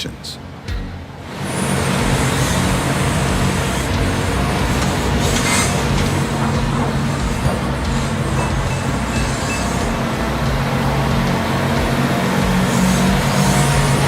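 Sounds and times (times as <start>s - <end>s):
diesel engine running: 0.6s - 14.0s.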